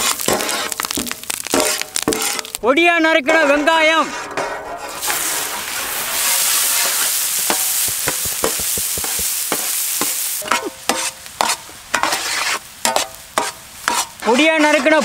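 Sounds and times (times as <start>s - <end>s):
metal ladle scraping wok: 0.0s - 2.6s, 3.4s - 15.0s
onion sizzling in hot oil: 0.0s - 2.7s, 4.9s - 14.5s.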